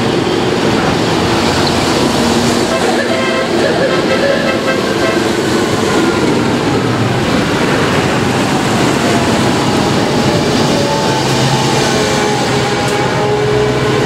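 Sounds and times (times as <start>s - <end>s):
tractors driving past: 0.0s - 14.0s.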